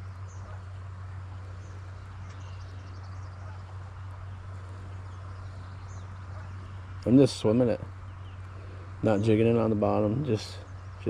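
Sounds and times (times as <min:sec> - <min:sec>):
deep steady hum: 0:00.0 - 0:11.0.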